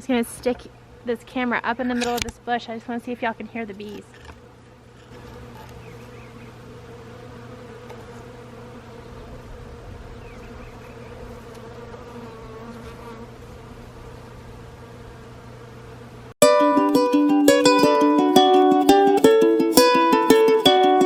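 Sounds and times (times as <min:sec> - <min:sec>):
bees buzzing: 0:03.0 - 0:21.0.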